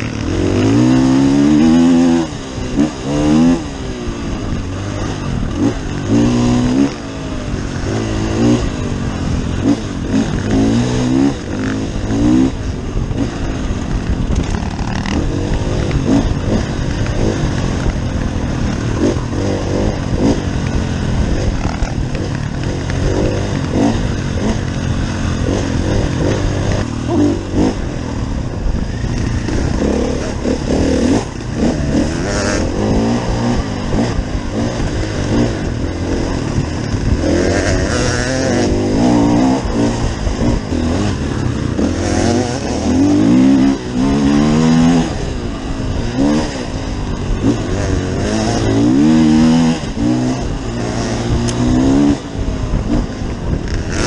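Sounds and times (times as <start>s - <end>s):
dirt bike engine revving: 0.0s - 54.0s
wind on microphone: 0.0s - 54.0s.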